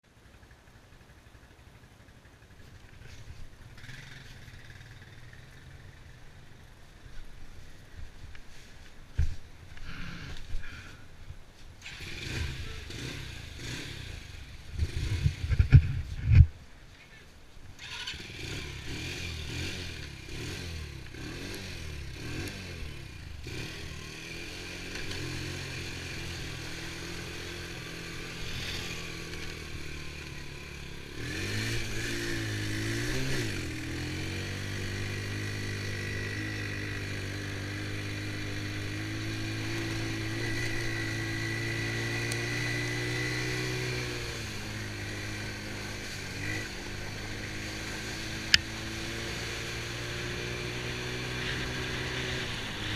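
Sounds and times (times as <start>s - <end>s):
atv engine revving: 0.3s - 6.8s, 11.8s - 16.4s, 17.8s - 52.9s.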